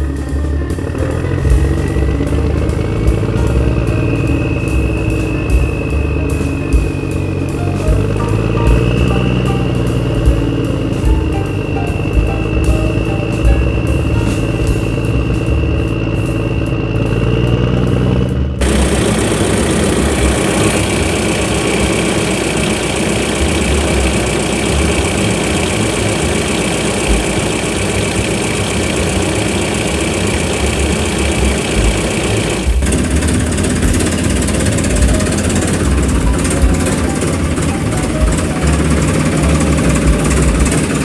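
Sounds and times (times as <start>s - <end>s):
engine running: 0.0s - 41.0s
steady musical tones: 0.0s - 41.0s.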